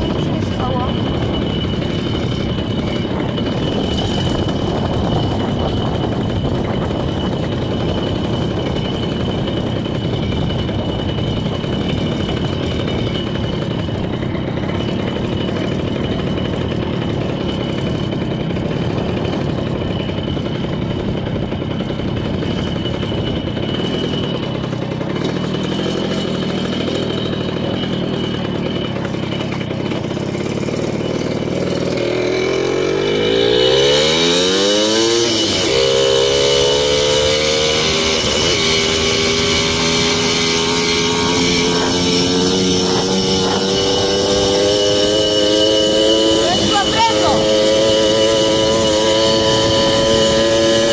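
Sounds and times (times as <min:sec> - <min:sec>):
moped engine running: 0:00.0 - 0:50.9.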